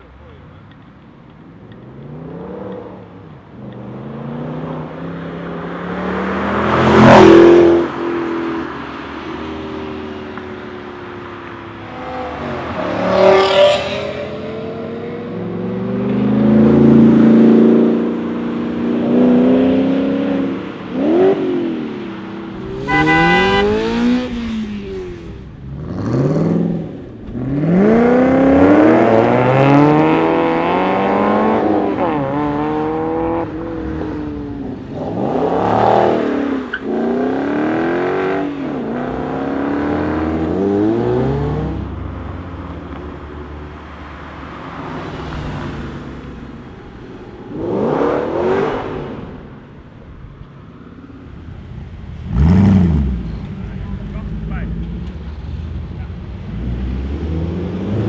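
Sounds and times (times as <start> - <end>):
sports cars accelerating past: 1.7 - 50.0, 50.6 - 53.6, 54.2 - 58.0.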